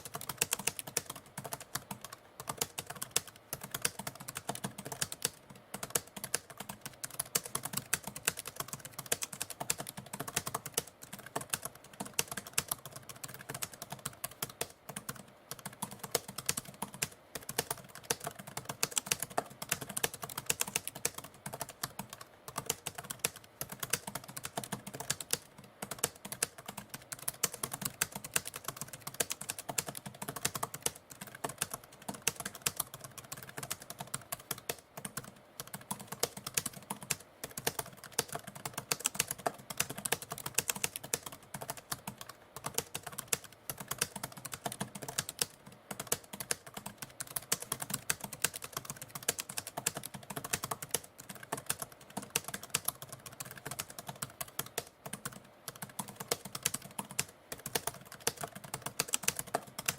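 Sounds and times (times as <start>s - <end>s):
typewriter keys clicking: 0.0s - 59.9s.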